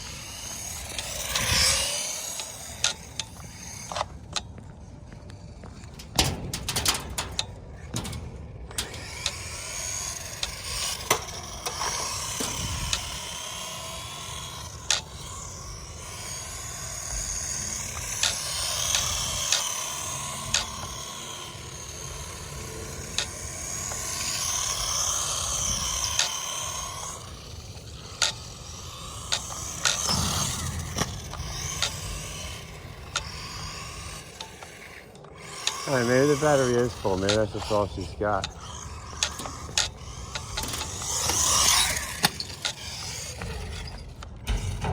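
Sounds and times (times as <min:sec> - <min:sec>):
electric motor whining: 0:00.0 - 0:44.9
tyres scraping on concrete: 0:00.0 - 0:44.9.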